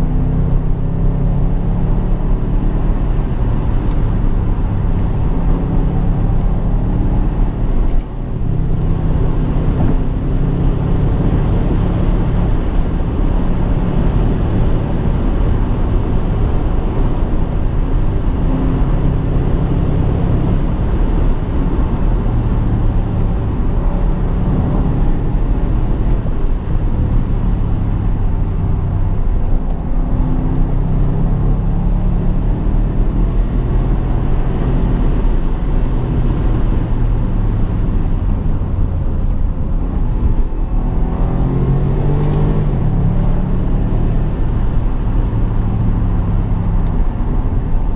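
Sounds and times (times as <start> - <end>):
car engine running: 0.0 - 47.9
road noise: 0.0 - 47.9.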